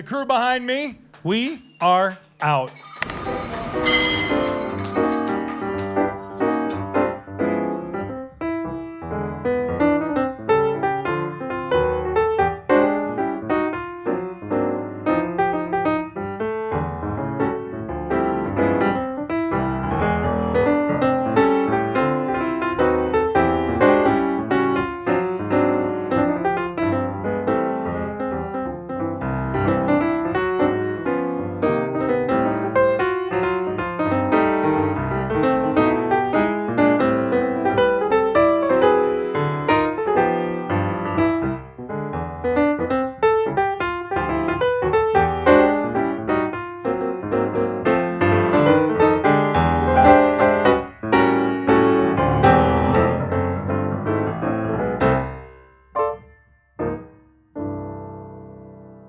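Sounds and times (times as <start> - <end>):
piano-led music: 0.0 - 59.0.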